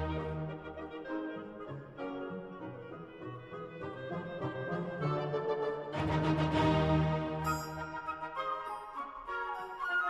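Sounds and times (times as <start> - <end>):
flute melody: 0.0 - 10.0
orchestral music: 0.0 - 10.0.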